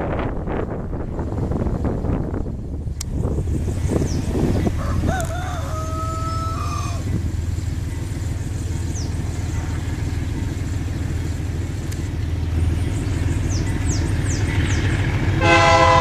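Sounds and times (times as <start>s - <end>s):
locomotive engine rumbling: 0.0s - 16.0s.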